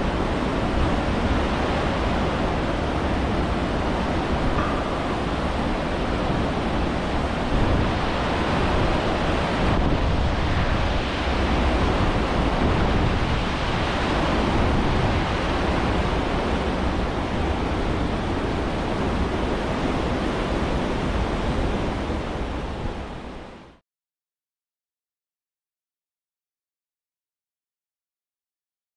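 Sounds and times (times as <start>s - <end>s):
wind buffeting microphone: 0.0s - 23.4s
ship's wake churning: 0.0s - 23.7s.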